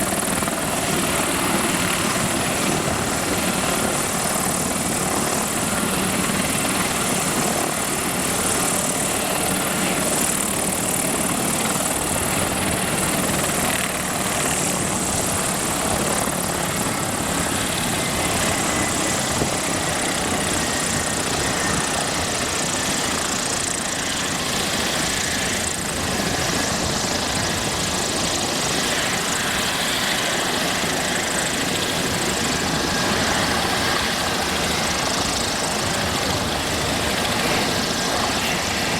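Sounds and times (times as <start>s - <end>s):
helicopter engines and rotor: 0.0s - 38.9s.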